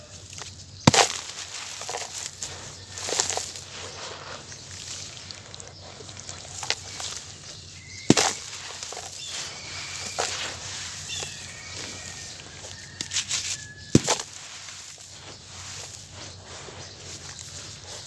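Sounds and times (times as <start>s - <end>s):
gritty crunching: 0.0s - 18.0s.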